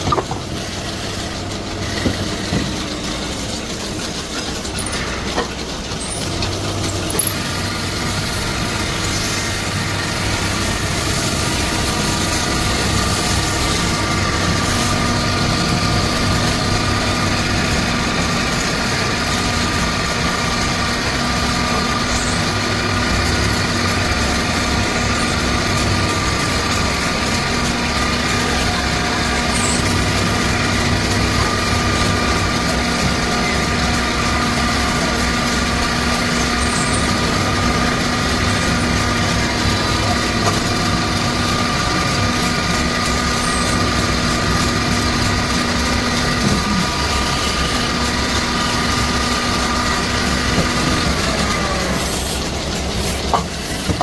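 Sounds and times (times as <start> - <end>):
lathe motor humming: 0.0 - 54.0.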